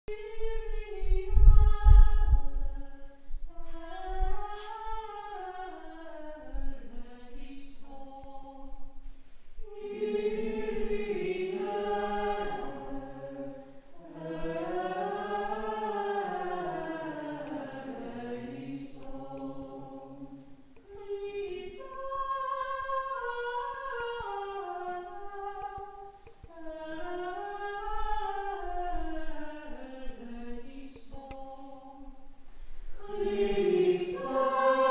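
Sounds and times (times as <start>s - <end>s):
choir singing unaccompanied chant: 3.5s - 8.8s, 9.6s - 32.3s, 32.9s - 34.9s.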